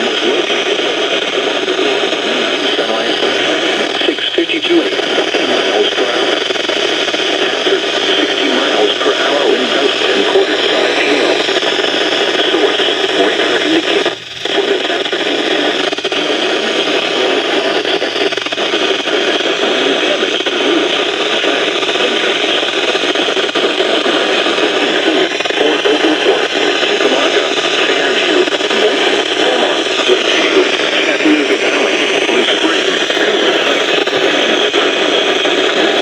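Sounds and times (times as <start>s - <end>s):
radio static hiss: 0.0s - 36.0s.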